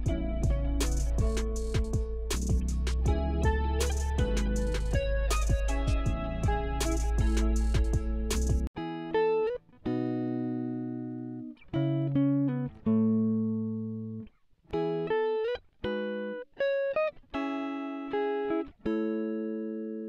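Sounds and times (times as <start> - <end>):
slow plucked string music: 0.0 - 20.0.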